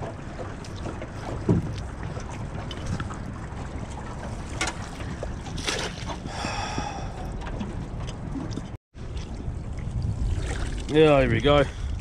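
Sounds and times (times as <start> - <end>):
water splashing and trickling: 0.0 - 12.0
wind rumble on microphone: 0.0 - 12.0.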